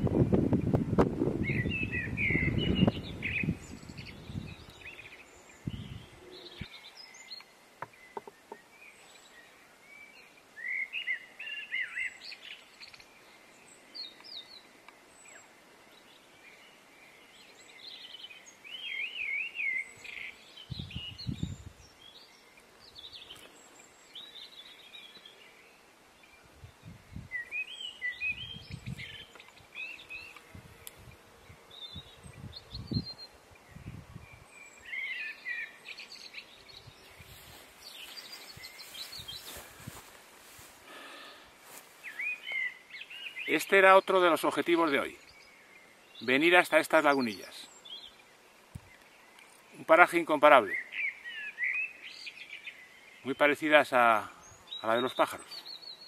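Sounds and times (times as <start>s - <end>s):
songbirds twittering: 0.0s - 56.0s.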